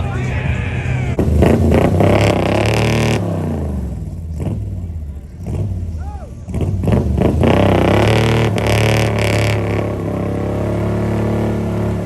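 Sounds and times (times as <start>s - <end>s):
car engine revving: 1.1s - 12.0s.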